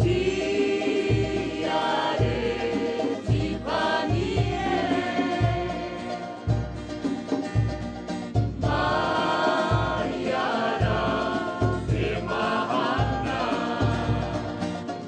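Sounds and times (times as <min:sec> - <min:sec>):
choir singing harmonised notes: 0:00.0 - 0:07.9, 0:08.5 - 0:15.0.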